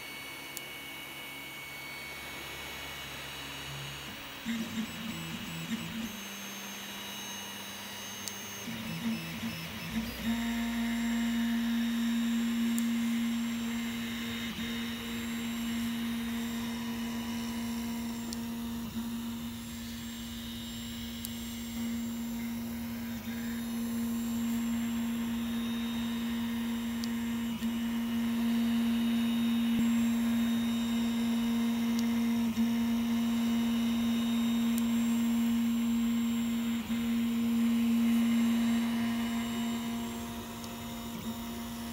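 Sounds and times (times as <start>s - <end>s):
three d printer stepper motors whining: 0.0s - 41.9s.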